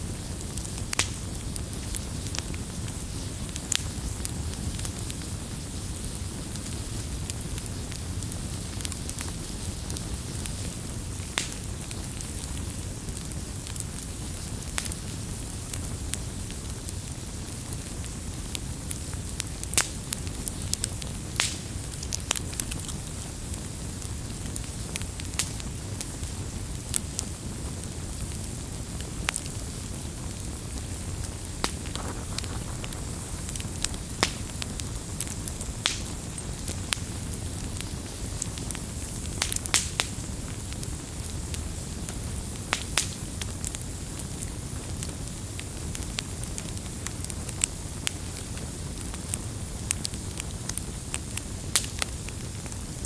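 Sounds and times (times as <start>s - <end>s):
fire rumble and hiss: 0.0s - 53.0s
firewood popping and crackling: 0.0s - 53.0s.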